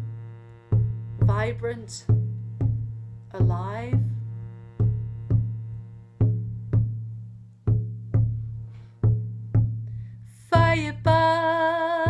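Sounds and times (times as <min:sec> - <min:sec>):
hand drum beating: 0:00.0 - 0:12.0
shruti box drone: 0:00.0 - 0:12.0.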